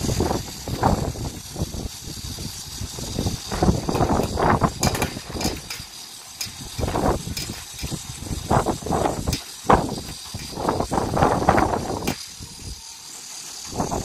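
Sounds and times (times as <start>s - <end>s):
wind gusting against microphone: 0.0s - 12.8s, 13.6s - 14.0s.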